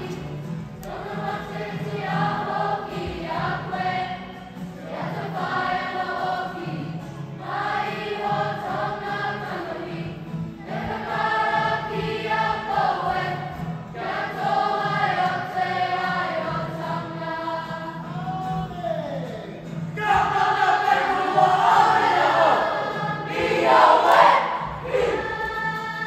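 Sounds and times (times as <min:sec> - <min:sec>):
children's choir singing: 0:00.0 - 0:18.8, 0:19.9 - 0:26.0.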